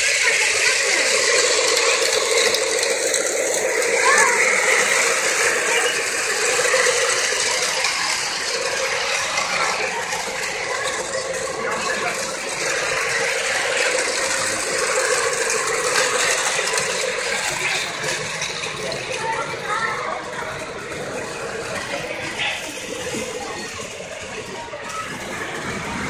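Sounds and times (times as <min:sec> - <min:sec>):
model trains rattling on track: 0:00.0 - 0:26.0.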